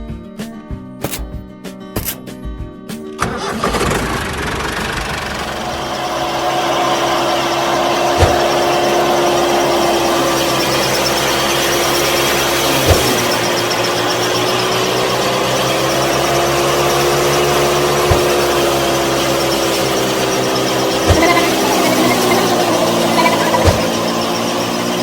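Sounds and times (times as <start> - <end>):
small motor whining: 3.2 - 25.0.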